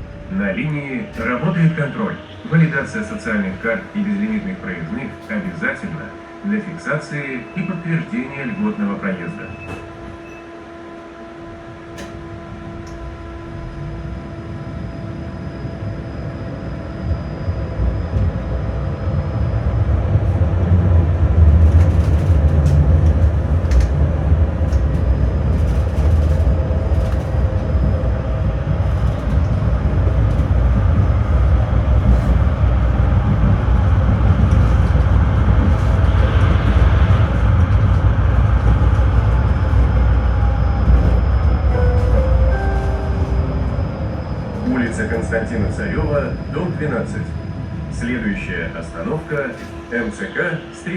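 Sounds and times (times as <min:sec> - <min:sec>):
tram rumbling on rails: 0:00.0 - 0:50.9.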